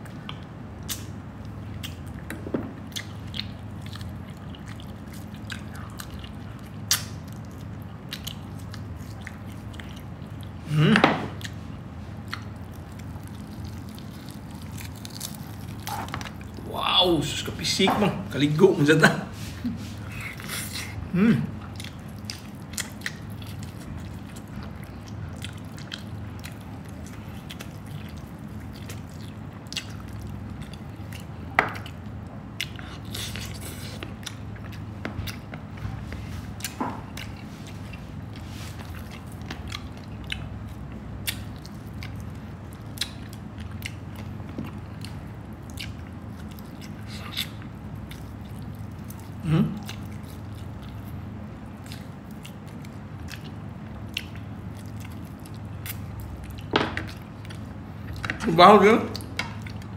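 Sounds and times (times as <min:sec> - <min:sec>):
chewing meat: 0:00.0 - 0:59.9
steady low hum: 0:00.0 - 0:59.9.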